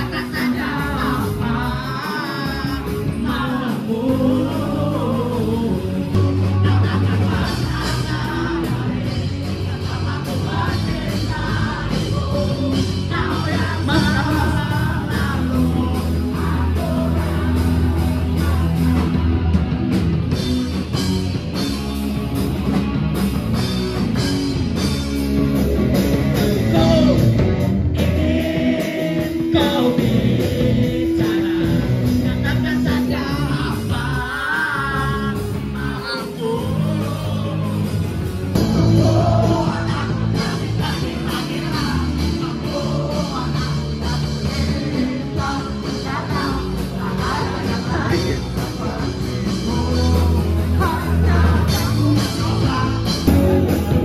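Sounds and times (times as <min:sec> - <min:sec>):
rock song with singing: 0:00.0 - 0:54.0.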